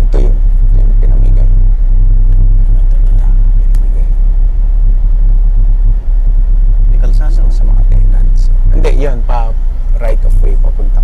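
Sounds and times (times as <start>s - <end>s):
car rumbling on dirt road: 0.0s - 11.0s.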